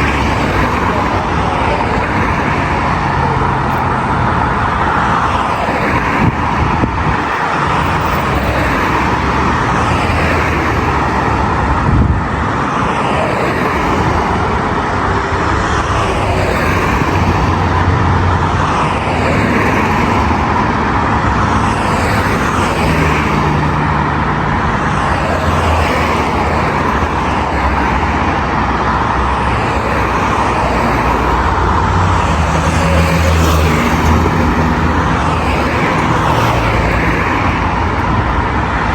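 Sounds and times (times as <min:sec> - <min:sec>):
car engines and tyre noise: 0:00.0 - 0:38.9.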